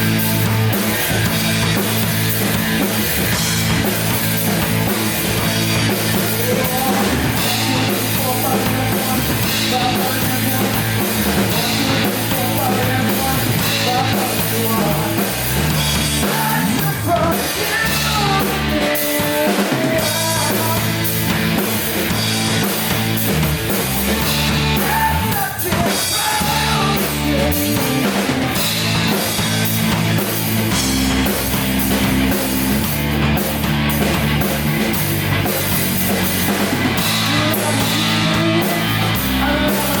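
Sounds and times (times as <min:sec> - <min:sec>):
heavy rock band playing live: 0:00.0 - 0:40.0.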